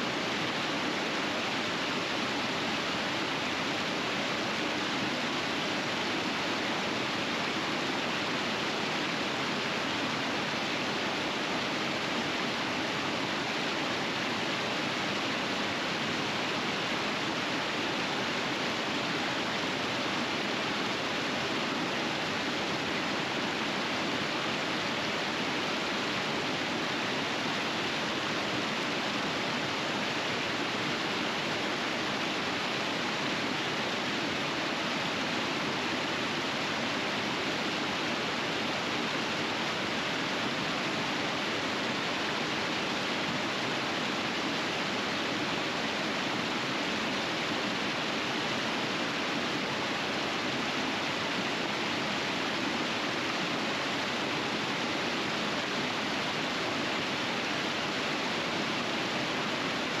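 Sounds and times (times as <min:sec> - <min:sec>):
river rapids rushing: 0:00.0 - 1:00.0.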